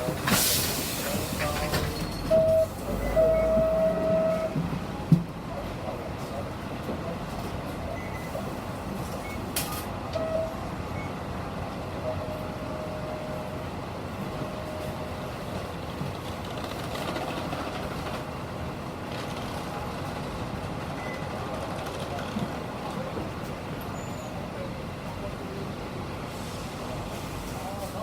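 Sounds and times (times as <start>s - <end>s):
bus engine and road rumble: 0.0s - 28.0s.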